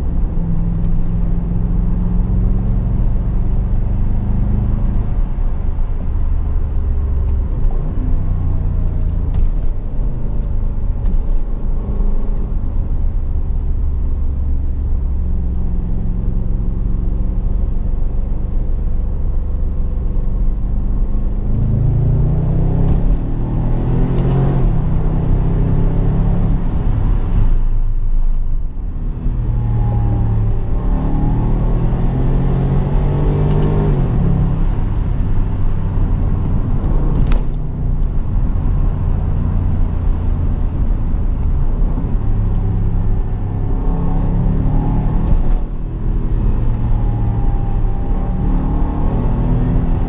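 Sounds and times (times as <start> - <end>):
car engine: 0.0 - 50.0
road noise: 0.0 - 50.0.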